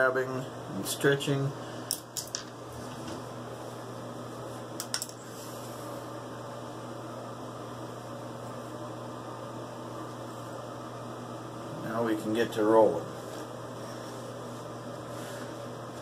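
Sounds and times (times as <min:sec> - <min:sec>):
fan humming: 0:00.0 - 0:16.0.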